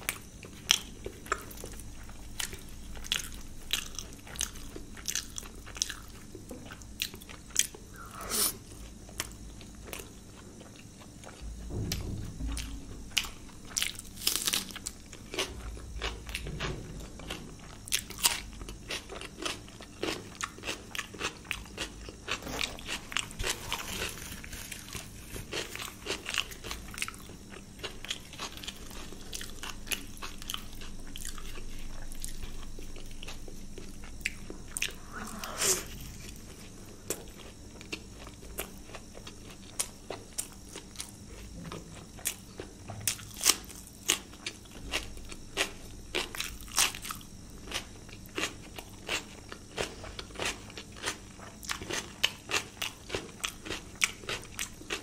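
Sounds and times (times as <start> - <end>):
close chewing and crunching: 0.0 - 11.8, 12.5 - 55.0.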